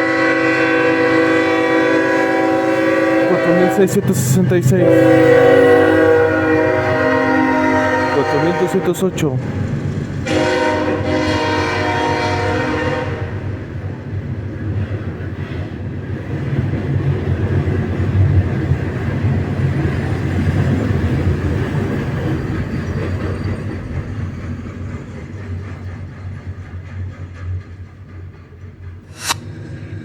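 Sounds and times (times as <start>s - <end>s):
freight train rumbling past: 0.0s - 30.0s.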